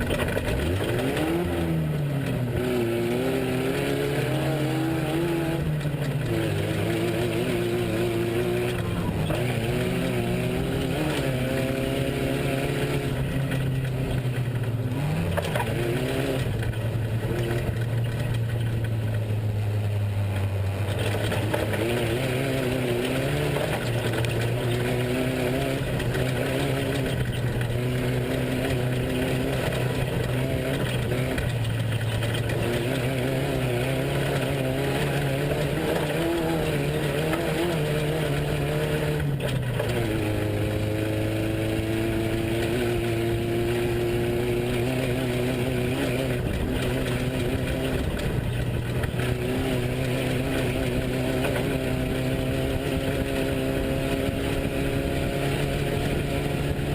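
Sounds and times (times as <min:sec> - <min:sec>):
race truck engine revving: 0:00.0 - 0:56.9.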